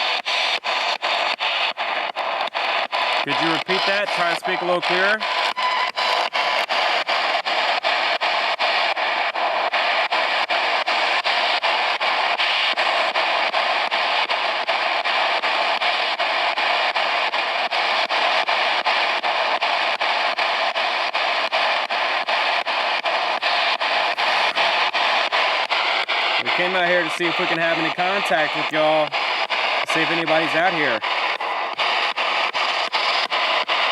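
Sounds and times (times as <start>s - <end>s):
radio static hiss: 0.0s - 33.9s.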